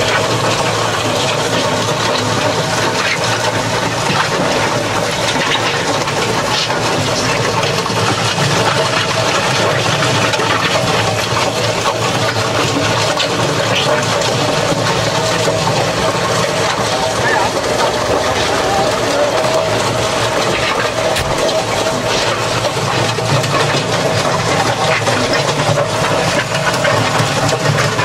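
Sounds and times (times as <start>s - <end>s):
diesel tractor running: 0.0s - 28.0s
trencher churning earth: 0.0s - 28.0s.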